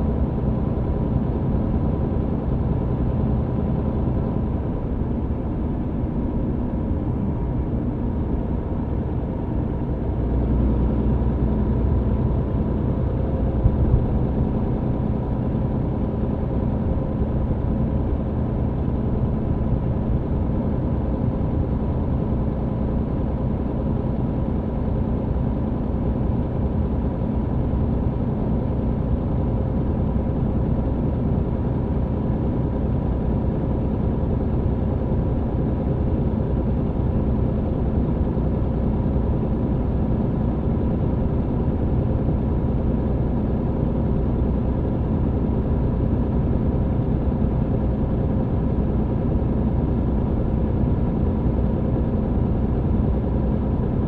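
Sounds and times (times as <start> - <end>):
truck engine drone in cab: 0.0 - 54.0.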